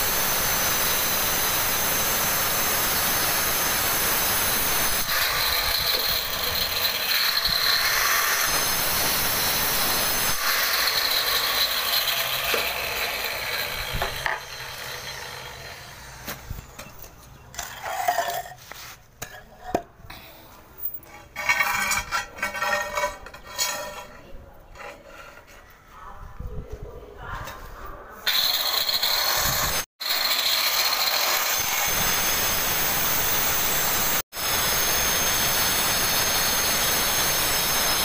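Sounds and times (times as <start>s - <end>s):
stone cutter grinding stone: 0.0s - 19.9s, 20.9s - 25.7s, 28.2s - 38.0s.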